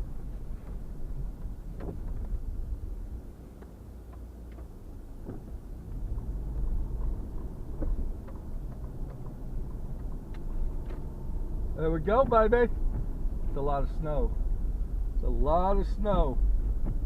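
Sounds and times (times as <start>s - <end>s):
car driving through snow: 0.0s - 17.0s.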